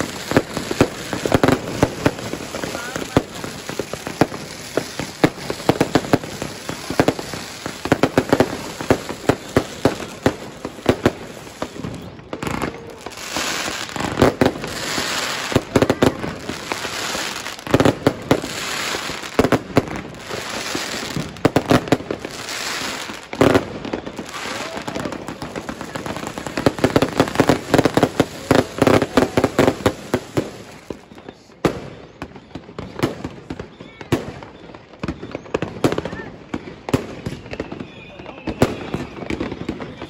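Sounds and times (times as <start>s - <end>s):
dense firework crackling: 0.0s - 40.0s
fireworks bangs and cracks: 0.0s - 40.0s.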